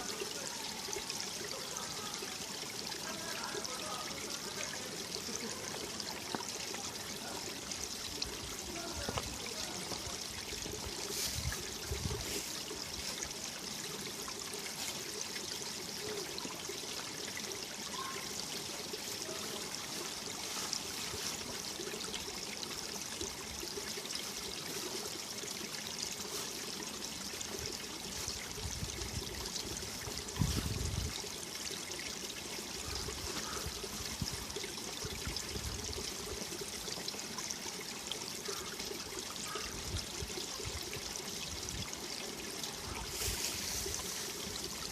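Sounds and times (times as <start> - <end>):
stream running over rocks: 0.0 - 44.9.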